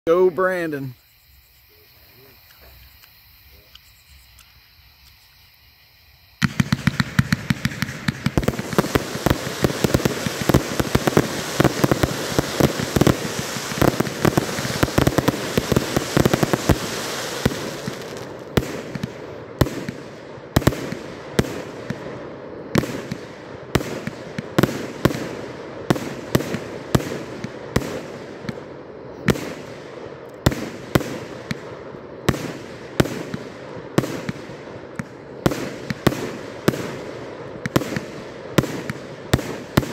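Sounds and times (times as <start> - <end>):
fireworks hiss: 1.5 - 39.9
fireworks popping and bursting: 6.4 - 39.9.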